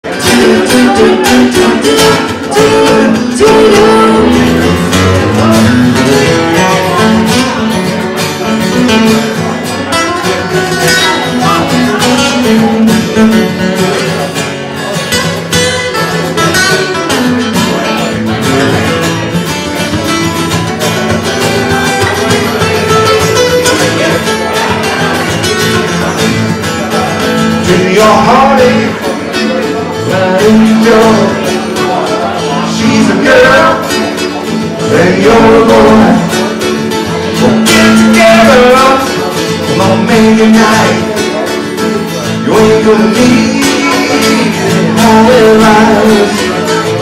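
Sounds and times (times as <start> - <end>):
acoustic guitar strummed: 0.0 - 47.0.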